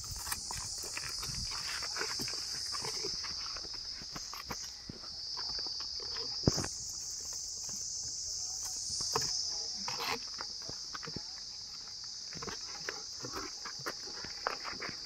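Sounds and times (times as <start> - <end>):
hooves on dirt and stone: 0.0 - 15.0.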